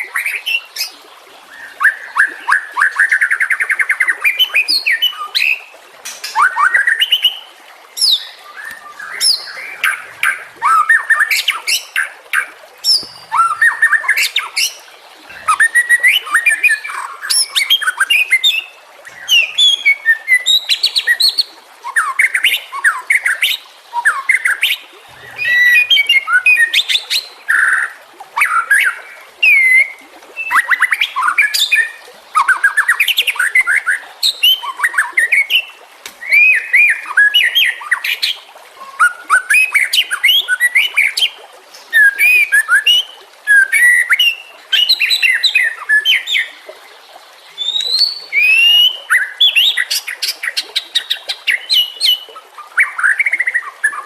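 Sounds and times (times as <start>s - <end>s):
bird singing varied phrases: 1.5s - 41.2s, 47.5s - 54.0s.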